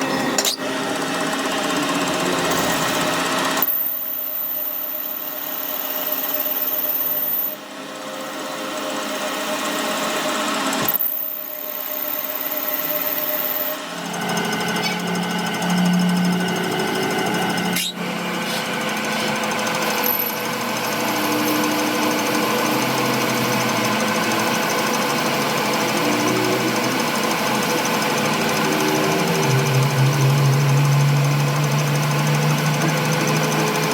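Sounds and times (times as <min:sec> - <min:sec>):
workshop machinery humming: 0:00.0 - 0:33.9.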